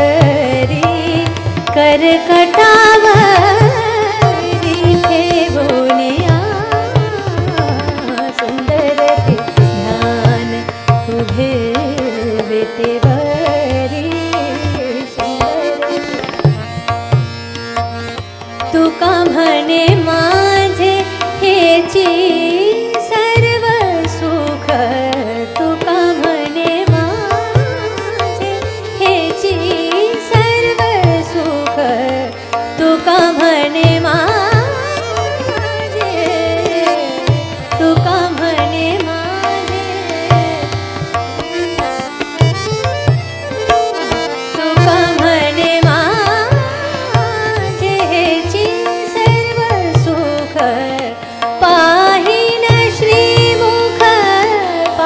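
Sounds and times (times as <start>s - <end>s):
ornamented melody with gliding runs: 0.0s - 55.0s
tabla rhythm: 0.0s - 55.0s.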